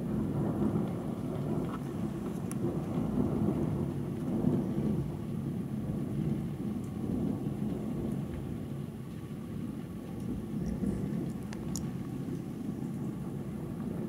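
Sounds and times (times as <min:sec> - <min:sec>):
rolling thunder: 0:00.0 - 0:14.0.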